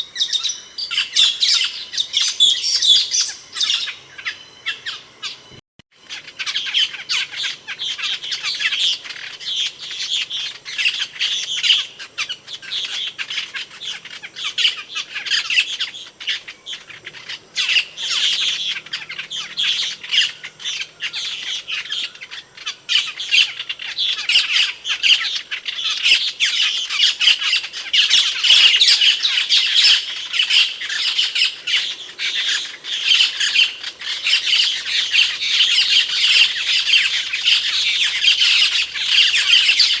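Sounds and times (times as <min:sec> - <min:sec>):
starling squawks and chirps: 0:00.0 - 0:40.0.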